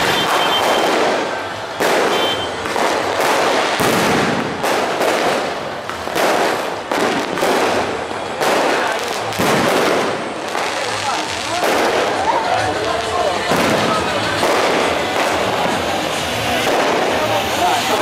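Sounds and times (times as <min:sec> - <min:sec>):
fireworks banging: 0:00.0 - 0:18.0.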